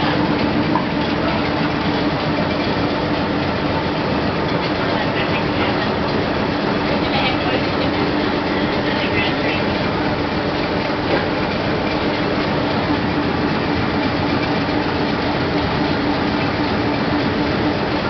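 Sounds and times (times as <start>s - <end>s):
steady hum: 0.0s - 18.0s
subway car wheels rumbling: 0.0s - 18.0s.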